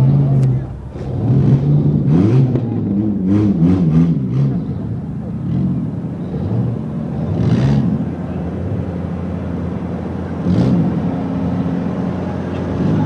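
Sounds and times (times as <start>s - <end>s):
car engines revving together: 0.0s - 13.0s.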